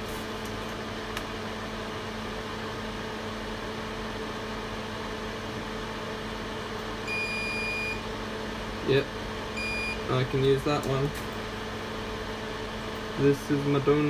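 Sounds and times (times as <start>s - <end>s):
electric fan whirring: 0.0s - 14.0s.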